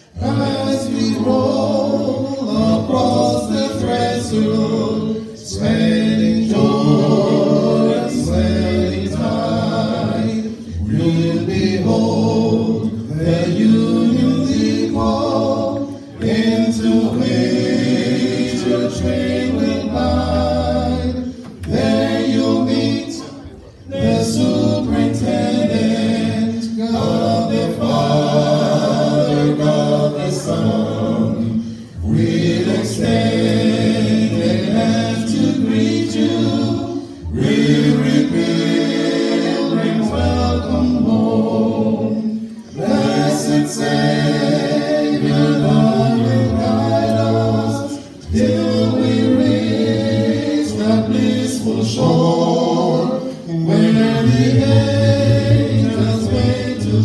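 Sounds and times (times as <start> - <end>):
male vocal quartet singing: 0.0 - 57.0.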